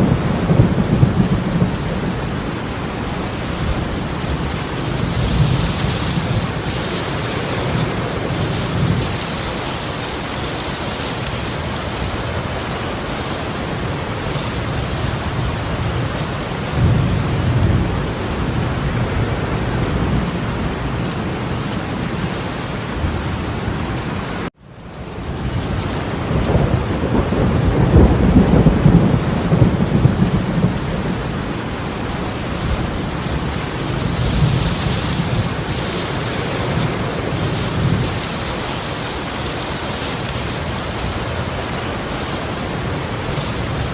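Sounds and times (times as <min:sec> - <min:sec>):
torrential rain pouring: 0:00.0 - 0:43.9.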